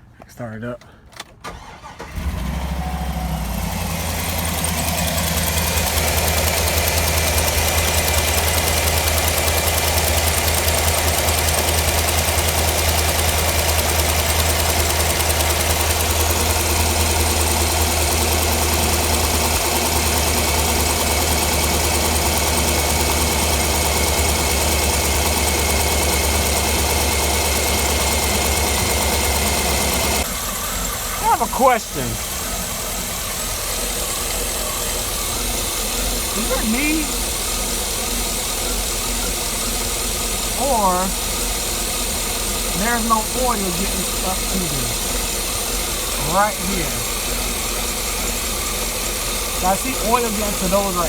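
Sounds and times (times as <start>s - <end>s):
engine idling: 1.5s - 51.0s.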